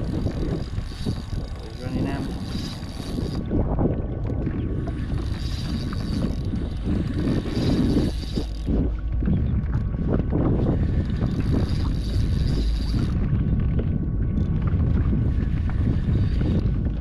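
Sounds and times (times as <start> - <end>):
water noise around a kayak: 0.0 - 17.0
wind buffeting the microphone: 0.0 - 17.0.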